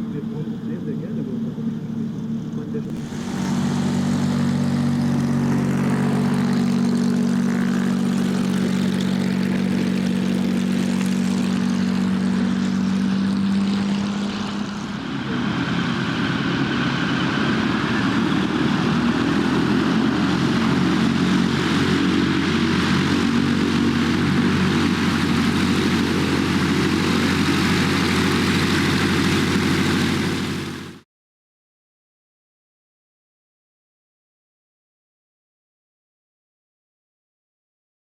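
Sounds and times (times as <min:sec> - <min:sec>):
radial engine and propeller running: 0:00.0 - 0:31.0.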